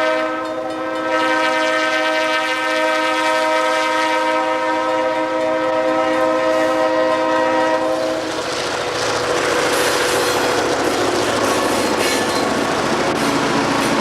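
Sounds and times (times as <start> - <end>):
locomotive air horn blast: 0.0 - 14.0.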